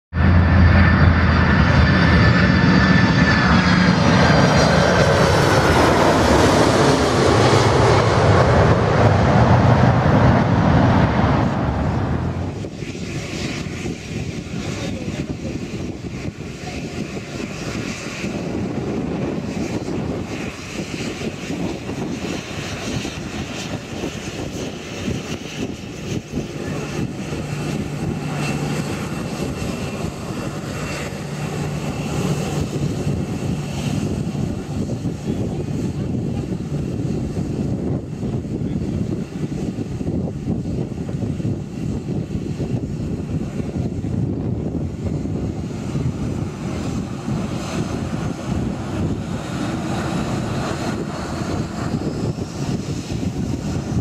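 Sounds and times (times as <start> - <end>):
jet airliner passing overhead: 0.1 - 54.0.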